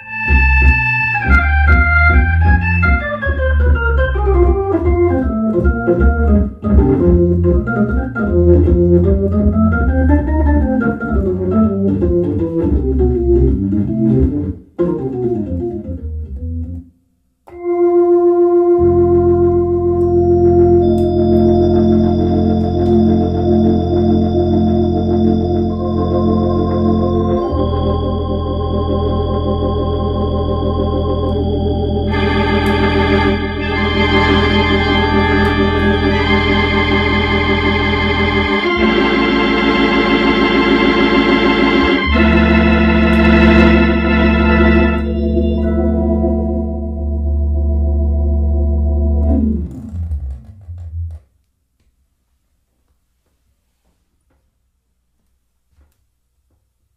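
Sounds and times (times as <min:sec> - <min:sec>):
organ playing held chords: 0:00.0 - 0:16.8, 0:17.5 - 0:51.2.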